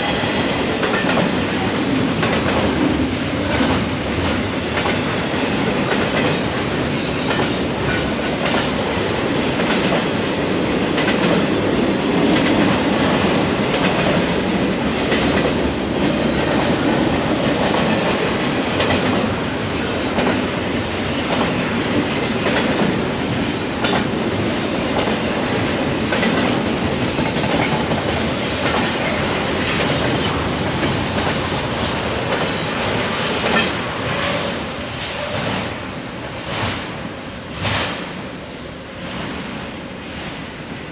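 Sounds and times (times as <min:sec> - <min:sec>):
steel wheels rumbling on rail: 0:00.0 - 0:40.9.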